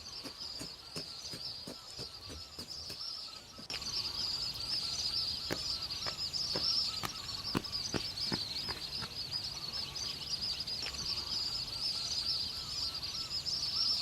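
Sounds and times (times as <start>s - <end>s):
high-pitched wildlife chirring: 0.0s - 14.0s.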